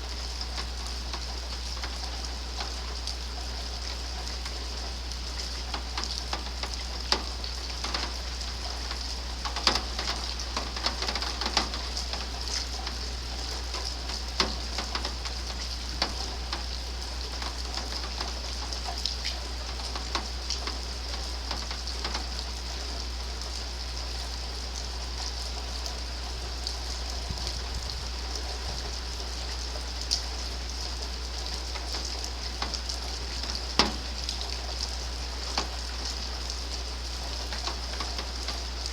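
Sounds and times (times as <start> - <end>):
steady rain hiss: 0.0 - 38.9
raindrops tapping: 0.1 - 38.9.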